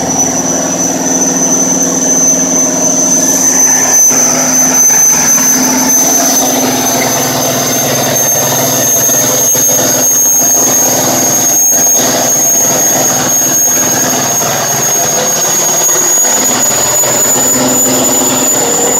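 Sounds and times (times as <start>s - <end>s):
high-pitched whine: 0.0s - 18.9s
marine diesel engine running: 0.0s - 18.9s.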